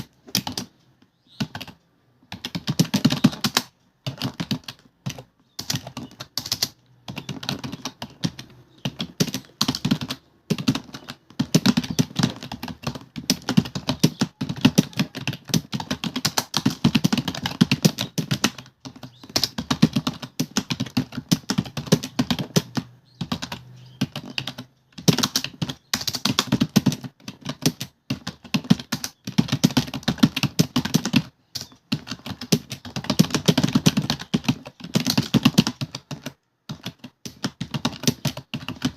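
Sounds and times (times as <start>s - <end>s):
typing on computer keyboard: 0.0s - 38.9s.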